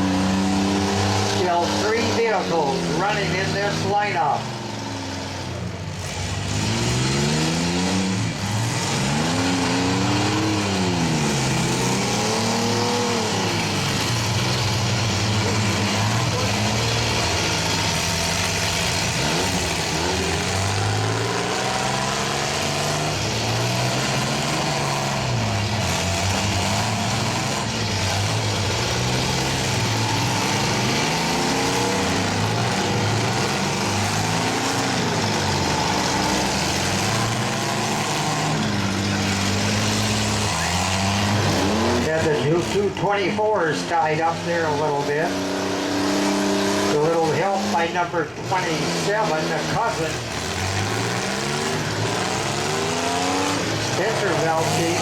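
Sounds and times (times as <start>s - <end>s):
vehicle engines revving: 0.0s - 55.0s.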